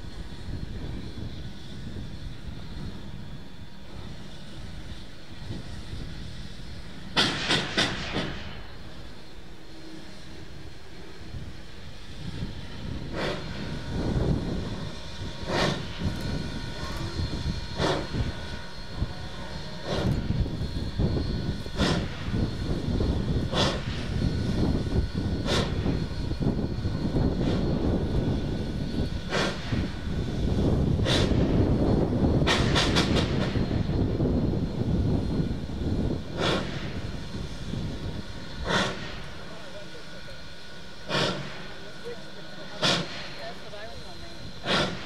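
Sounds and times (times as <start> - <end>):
steam locomotive exhaust chuffs: 0.0 - 45.0.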